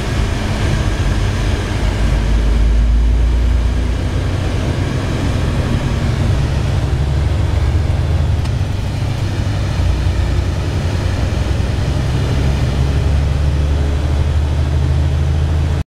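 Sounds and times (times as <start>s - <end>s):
tyre and road noise: 0.0s - 15.8s
vehicle engine drone: 0.0s - 15.8s.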